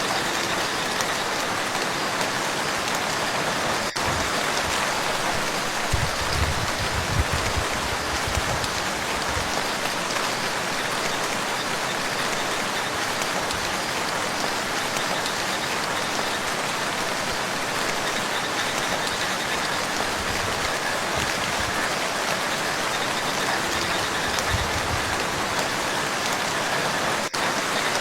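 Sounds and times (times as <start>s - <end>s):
rain falling on water: 0.0s - 28.0s.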